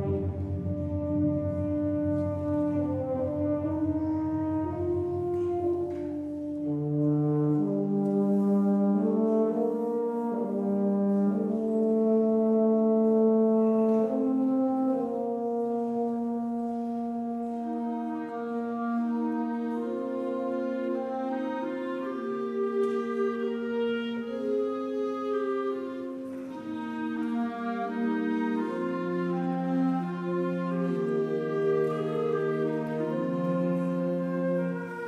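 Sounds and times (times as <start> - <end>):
french horns: 0.0 - 35.0
wind band playing held chords: 0.0 - 35.0.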